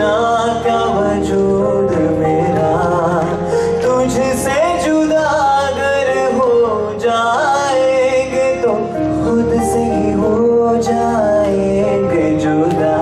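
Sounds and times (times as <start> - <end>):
instrumental accompaniment: 0.0 - 13.0
man singing: 0.0 - 13.0.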